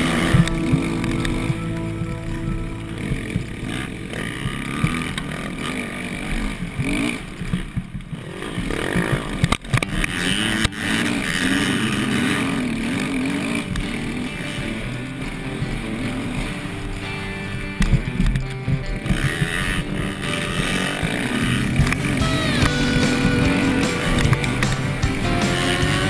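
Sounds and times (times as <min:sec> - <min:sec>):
motocross engine revving: 0:00.0 - 0:26.0.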